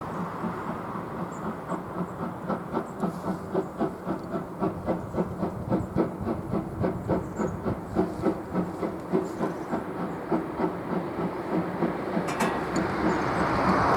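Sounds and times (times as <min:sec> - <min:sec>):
steam locomotive exhaust chuffing: 0:00.0 - 0:13.9
steady hiss of steam: 0:00.1 - 0:13.9.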